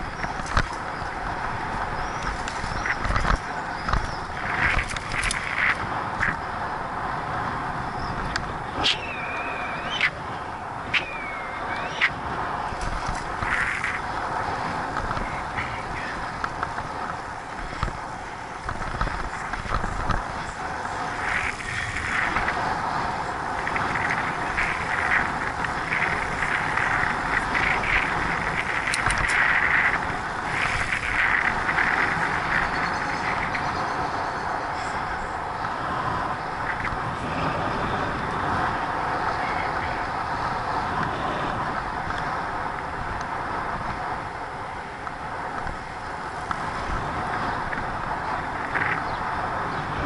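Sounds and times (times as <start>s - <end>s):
bicycle tyre and road noise: 0.0s - 50.0s
wind rushing over microphone: 0.0s - 50.0s.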